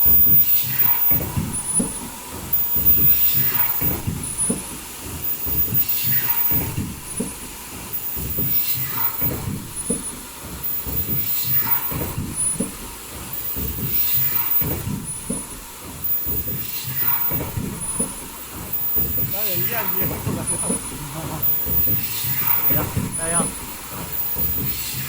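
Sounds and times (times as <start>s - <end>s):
mechanical knocks clattering: 0.0s - 25.0s.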